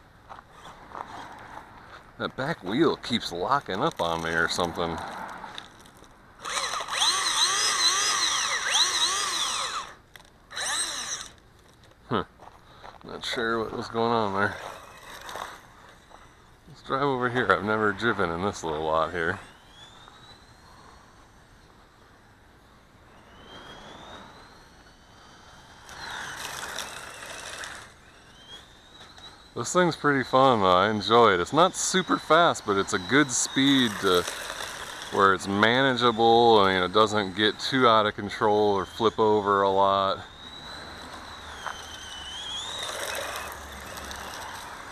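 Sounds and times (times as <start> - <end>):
tyres on concrete and gravel: 0.0 - 44.9
toy car electric motor whining: 0.3 - 1.6, 2.7 - 12.5, 13.2 - 44.9.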